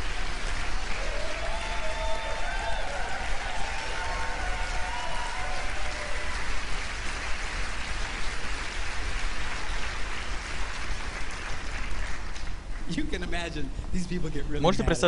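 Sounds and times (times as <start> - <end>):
large audience applauding: 0.0 - 13.5.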